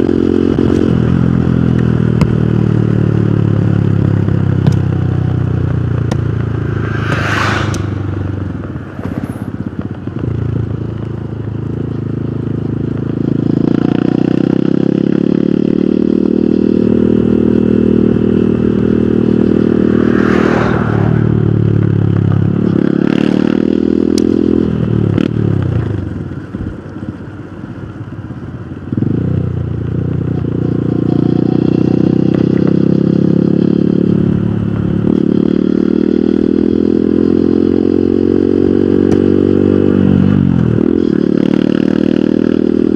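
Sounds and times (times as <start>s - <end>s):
motorcycle engine revving: 0.0s - 26.1s, 28.9s - 42.9s.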